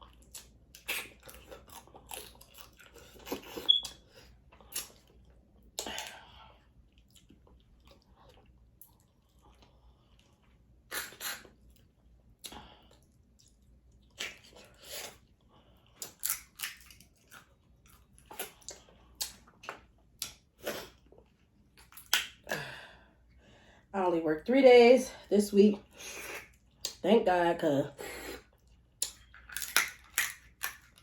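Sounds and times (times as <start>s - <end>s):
close chewing and mouth sounds: 0.0s - 23.9s, 25.7s - 27.0s, 27.9s - 31.0s.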